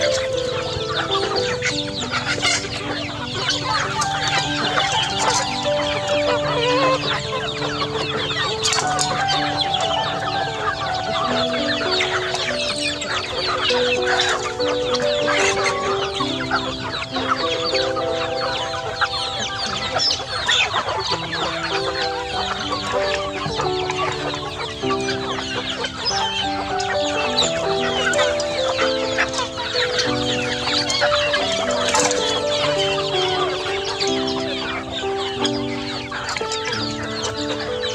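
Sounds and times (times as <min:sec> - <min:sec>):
background music of held notes: 0:00.0 - 0:37.9
chickens clucking and chicks peeping: 0:00.0 - 0:37.9.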